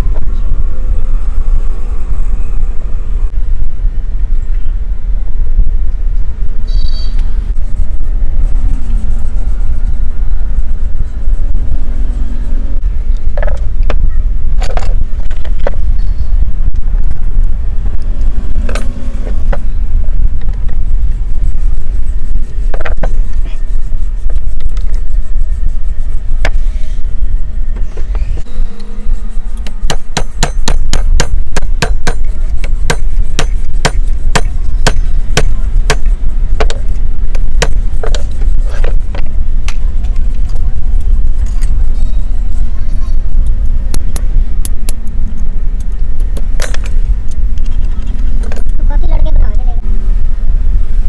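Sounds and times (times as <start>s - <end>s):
loud low rumble: 0.0s - 51.0s.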